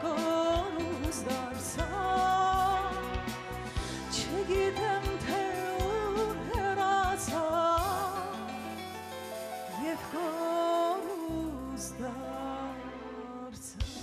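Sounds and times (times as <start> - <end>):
woman singing with vibrato: 0.0 - 3.0, 4.0 - 8.8, 9.7 - 14.0
drum kit beat: 0.0 - 11.4
live band playing: 0.0 - 14.0.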